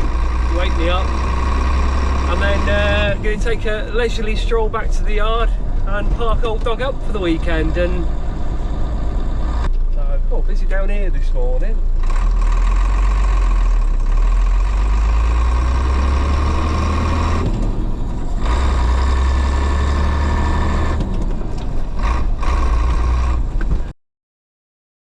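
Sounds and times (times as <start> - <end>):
diesel lorry engine running: 0.0 - 23.9.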